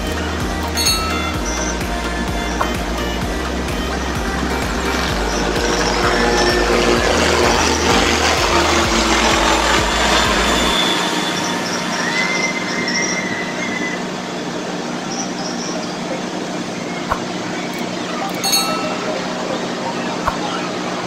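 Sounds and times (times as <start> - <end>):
thin high steady tone: 0.0 - 8.4, 9.2 - 21.0.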